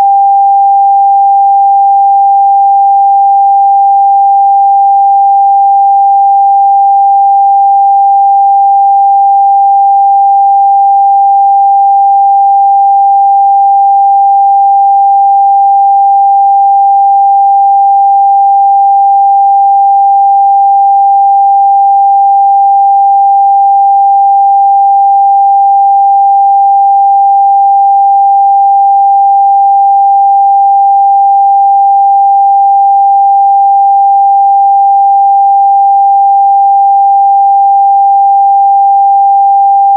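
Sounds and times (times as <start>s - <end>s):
sine test tone: 0.0s - 39.9s.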